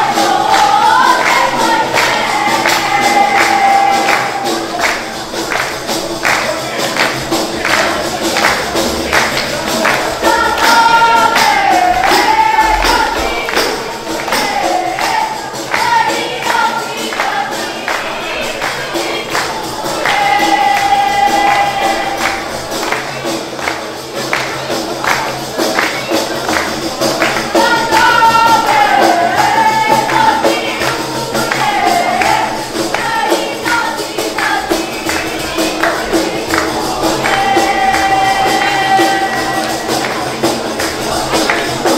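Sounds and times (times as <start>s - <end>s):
high singing voice: 0.0s - 23.3s, 27.2s - 41.9s
frame drums with jingles: 0.0s - 41.9s.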